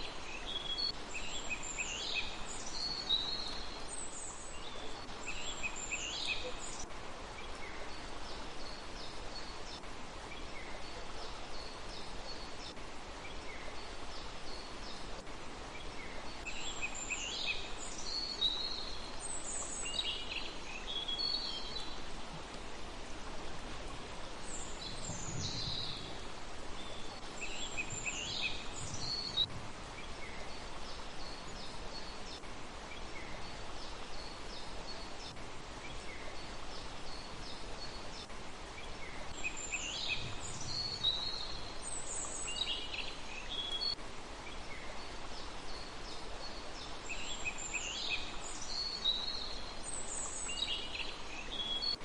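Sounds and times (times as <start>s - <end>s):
small birds chirping and twittering: 0.0s - 52.0s
steady background hiss: 0.0s - 52.0s.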